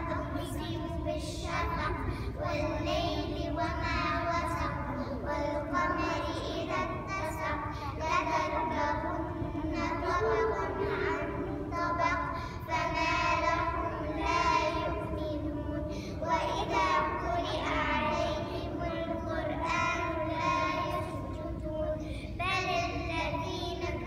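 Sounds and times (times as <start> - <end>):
girls singing into a microphone: 0.0 - 24.0
steady low rumble: 0.0 - 24.0.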